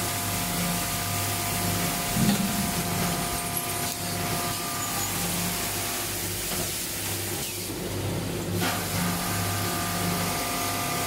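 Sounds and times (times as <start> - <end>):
welding machine humming: 0.0 - 11.0.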